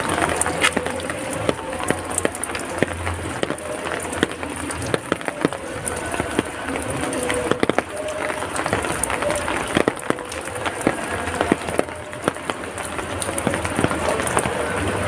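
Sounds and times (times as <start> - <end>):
rain hiss: 0.0 - 15.0
raindrops tapping and splashing: 0.0 - 15.0.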